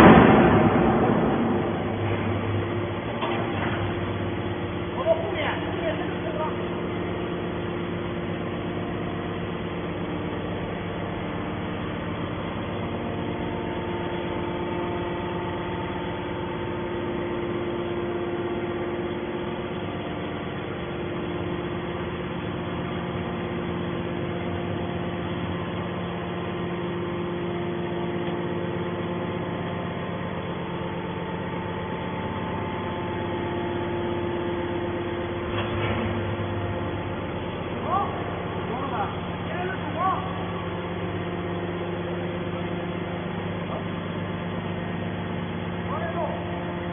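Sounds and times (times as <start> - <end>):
scrap metal baler humming: 0.0 - 46.9.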